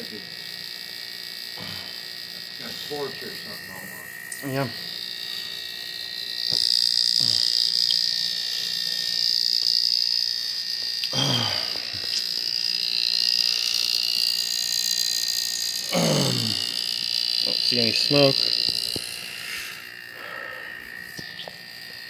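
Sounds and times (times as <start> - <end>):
high-pitched electrical whine: 0.0 - 22.0.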